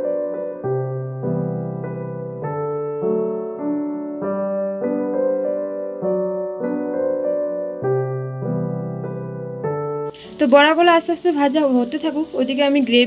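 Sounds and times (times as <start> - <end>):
held keyboard chords: 0.0 - 13.0.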